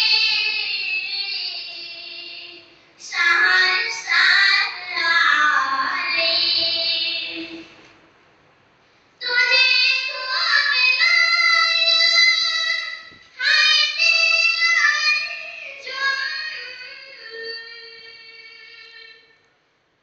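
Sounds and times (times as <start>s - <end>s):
person singing unaccompanied: 0.0s - 7.7s, 9.2s - 19.3s.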